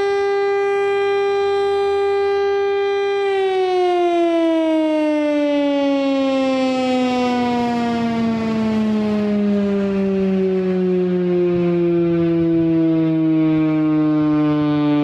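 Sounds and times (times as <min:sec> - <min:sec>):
warning siren winding down: 0:00.0 - 0:15.0.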